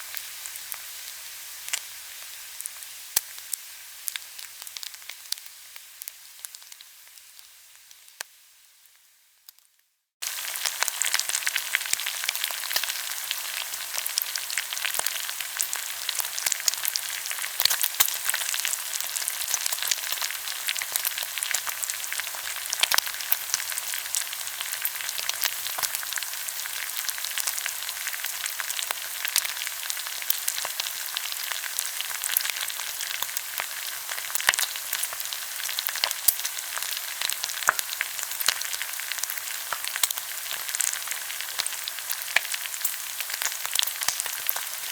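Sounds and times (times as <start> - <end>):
meat sizzling on a grill: 0.0 - 44.9.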